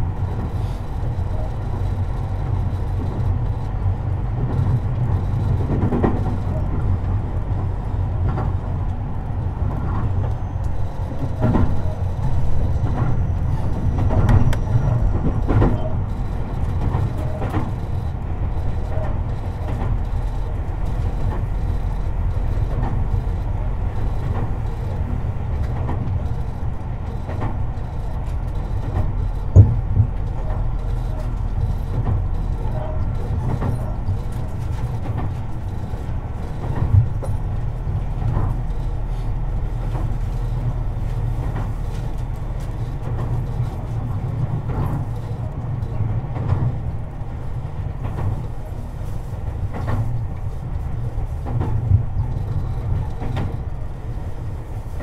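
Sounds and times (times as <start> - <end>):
rail joint clicks: 0.0 - 55.0
train wheels rumbling on rail: 0.0 - 55.0.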